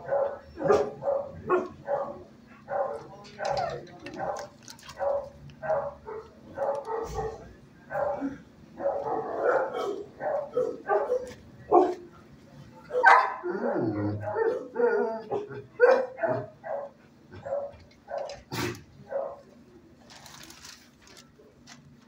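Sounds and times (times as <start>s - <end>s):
dogs barking: 0.0s - 12.1s, 12.9s - 19.5s.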